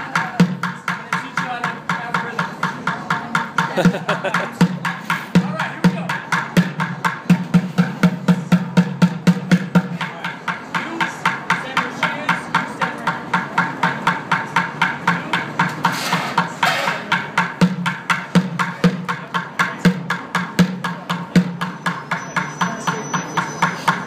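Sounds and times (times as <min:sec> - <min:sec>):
drumming on plastic buckets: 0:00.0 - 0:24.0.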